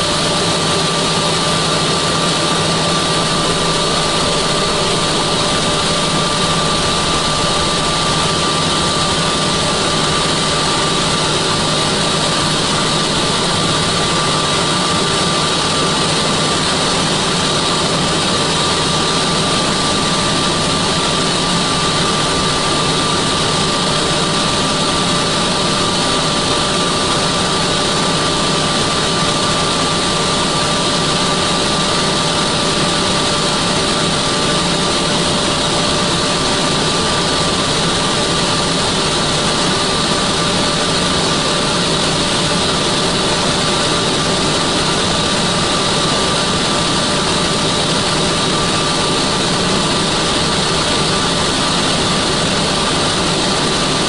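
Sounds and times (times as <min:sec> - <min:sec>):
constant turbine whine: 0:00.0 - 0:54.0
helicopter turbine and rotor noise: 0:00.0 - 0:54.0.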